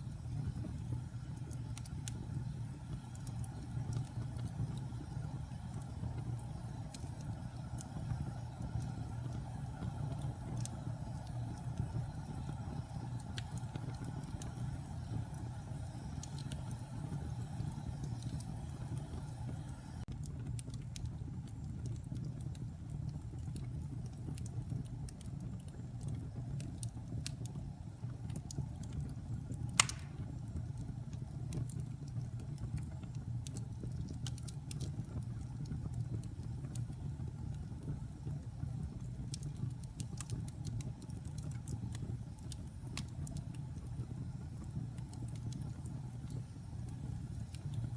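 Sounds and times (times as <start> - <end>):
fire crackles and pops: 0.0 - 47.9
fire flames rumbling: 0.0 - 47.9.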